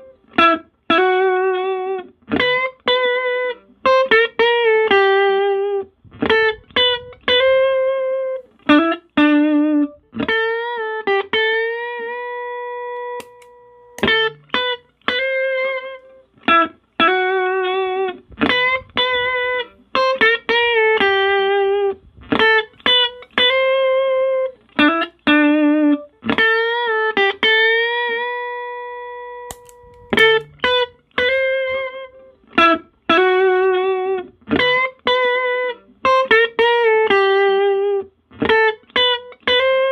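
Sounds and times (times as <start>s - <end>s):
clean electric guitar melody: 0.0s - 39.9s.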